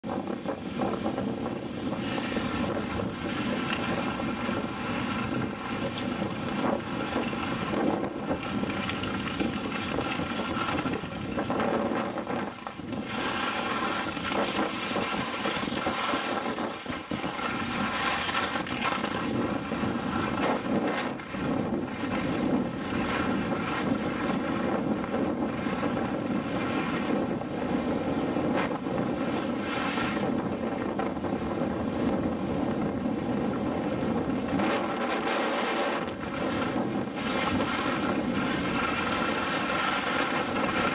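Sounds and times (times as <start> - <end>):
wind rushing over microphone: 0.0 - 40.9
skis scraping over snow: 0.2 - 40.9.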